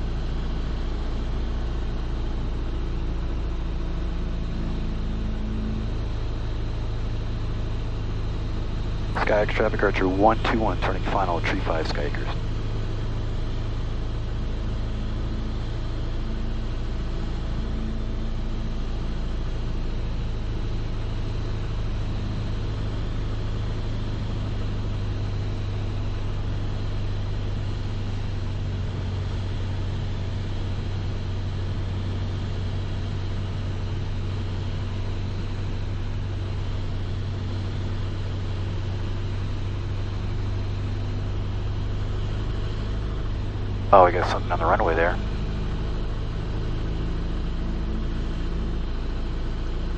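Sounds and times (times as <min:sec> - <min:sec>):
airplane engine and propeller drone: 0:00.0 - 0:49.9.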